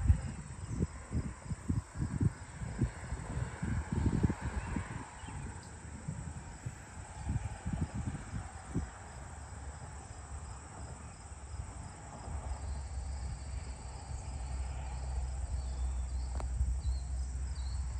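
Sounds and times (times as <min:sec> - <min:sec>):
crickets and insects trilling: 0:00.0 - 0:17.9.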